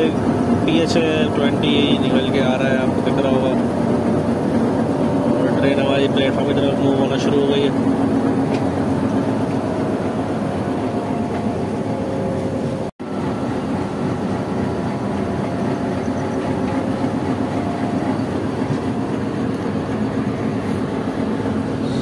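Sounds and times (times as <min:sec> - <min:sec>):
low engine drone: 0:00.0 - 0:22.0
train rumbling over rails: 0:00.0 - 0:22.0.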